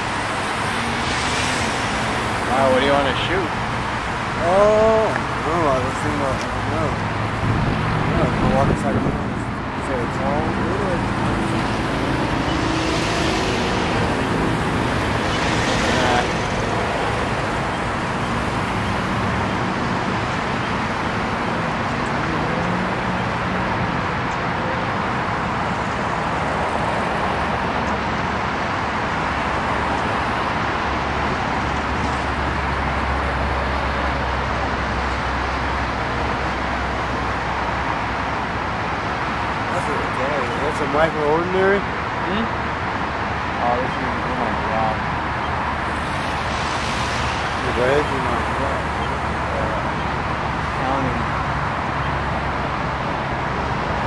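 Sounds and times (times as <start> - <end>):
cars driving past: 0.0 - 54.0
low engine rumble: 0.0 - 54.0.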